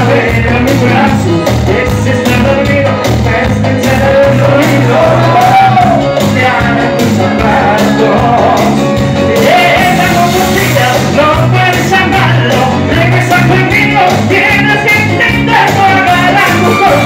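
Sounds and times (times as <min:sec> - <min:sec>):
congas: 0:00.0 - 0:17.0
live latin band playing: 0:00.0 - 0:17.0
person singing lead vocal: 0:00.0 - 0:17.0.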